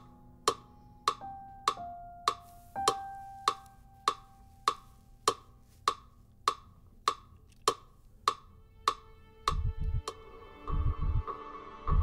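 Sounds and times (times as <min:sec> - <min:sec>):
metronome ticking: 0:00.0 - 0:11.2.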